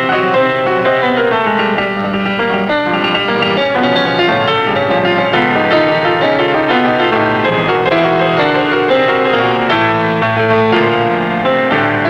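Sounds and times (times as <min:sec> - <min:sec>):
silent film piano music: 0:00.0 - 0:12.0.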